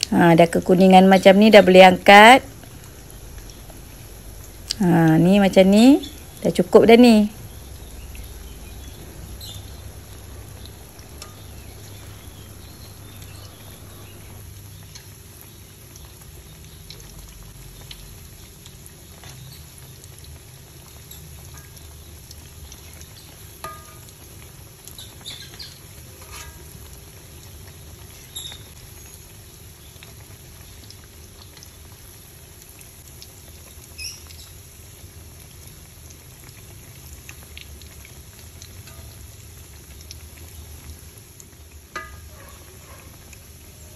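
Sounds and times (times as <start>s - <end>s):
patties sizzling in hot oil: 0.0s - 43.9s.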